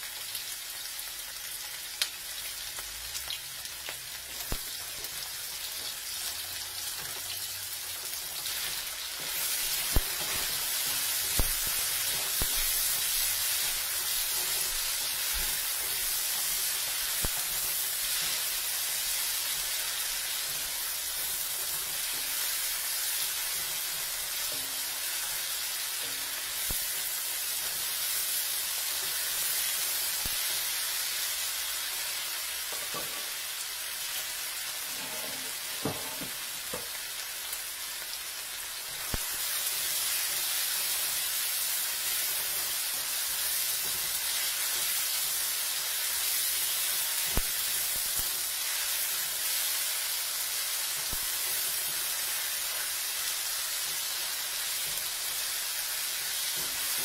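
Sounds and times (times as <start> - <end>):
vegetables sizzling in hot oil: 0.0 - 57.0.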